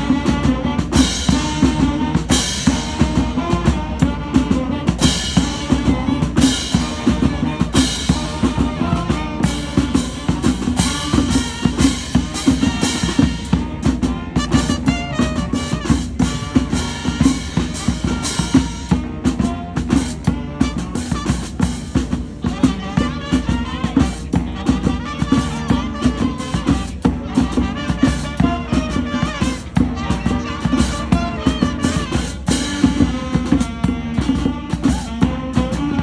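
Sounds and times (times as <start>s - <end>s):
street band drums: 0.0s - 36.0s.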